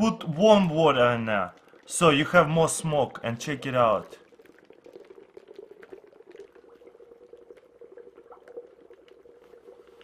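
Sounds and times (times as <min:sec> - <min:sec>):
dry ice bubbling in water: 0:00.0 - 0:10.0.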